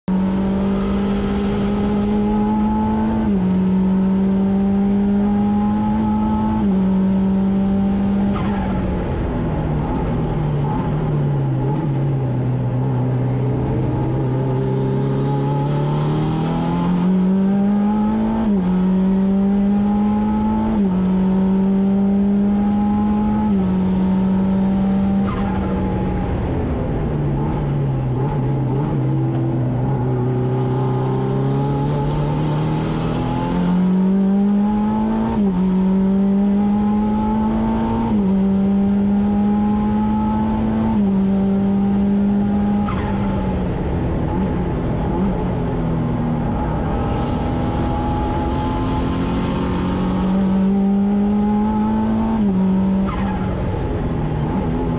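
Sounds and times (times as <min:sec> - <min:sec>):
race car engine revving: 0:00.1 - 0:54.9.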